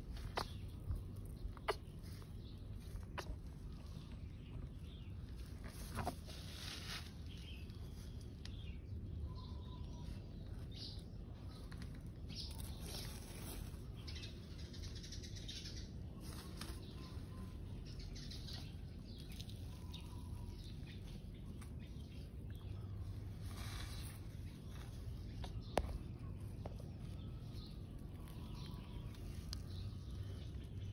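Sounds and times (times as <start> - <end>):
soft scratchy rustles: 0.0 - 9.1, 10.0 - 14.4, 16.0 - 30.9
faint bird chirps: 0.0 - 30.9.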